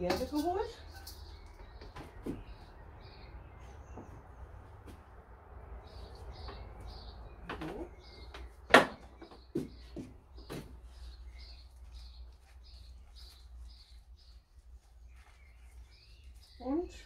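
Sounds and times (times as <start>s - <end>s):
bird chirping: 0.0s - 4.7s, 5.8s - 17.0s.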